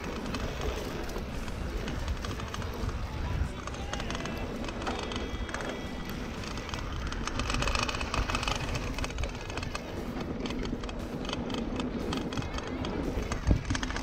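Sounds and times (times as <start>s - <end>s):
bike clicks and rattles: 0.0s - 14.0s
bike tyres on dirt: 0.0s - 14.0s
wind rumbling on microphone: 0.0s - 14.0s.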